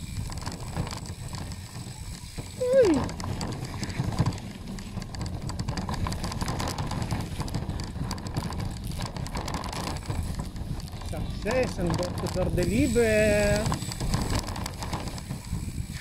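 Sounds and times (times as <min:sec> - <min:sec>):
bicycle tyres on gravel: 0:00.0 - 0:16.0
bike rattling over bumps: 0:00.0 - 0:16.0
wind rumble on microphone: 0:00.0 - 0:16.0.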